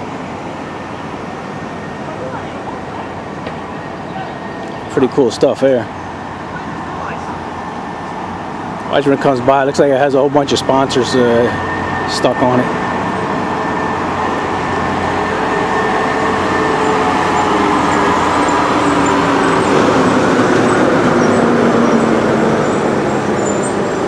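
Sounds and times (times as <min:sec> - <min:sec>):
truck diesel engine running: 0:00.0 - 0:24.0
tyre and road noise: 0:00.0 - 0:24.0.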